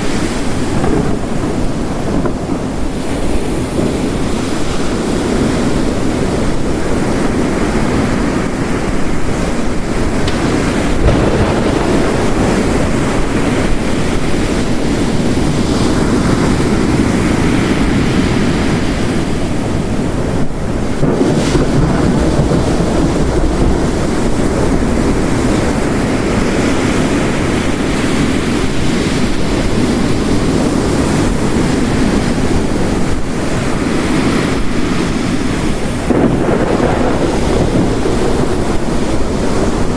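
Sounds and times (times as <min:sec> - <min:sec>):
heavy rain: 0:00.0 - 0:39.9
ocean waves crashing: 0:00.0 - 0:39.9.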